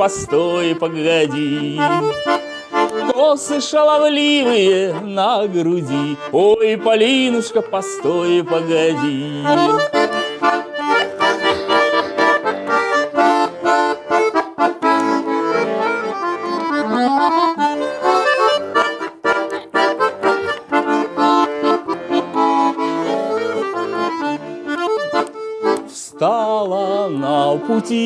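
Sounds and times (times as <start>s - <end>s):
button accordion folk melody: 0.0s - 28.0s.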